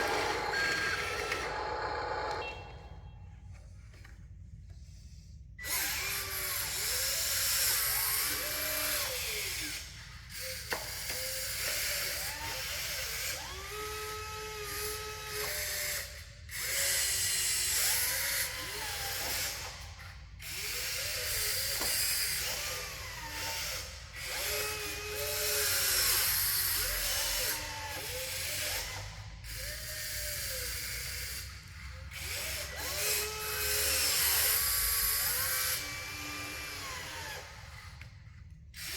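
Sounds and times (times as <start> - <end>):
small electric motors whining: 0.0 - 2.8, 5.6 - 38.9.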